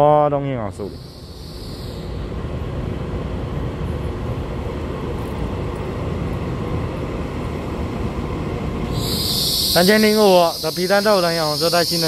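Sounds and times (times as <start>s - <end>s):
train wheels rumbling on rail: 0.7s - 12.0s.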